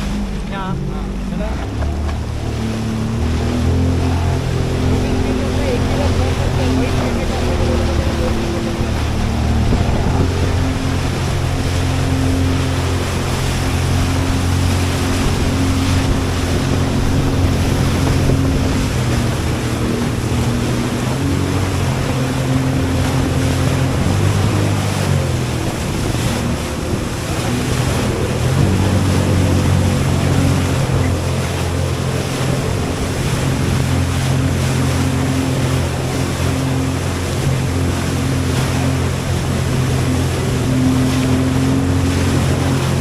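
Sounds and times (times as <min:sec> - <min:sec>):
water rushing: 0:00.0 - 0:43.0
watercraft engine running: 0:00.0 - 0:43.0
wind buffeting microphone: 0:00.0 - 0:43.0.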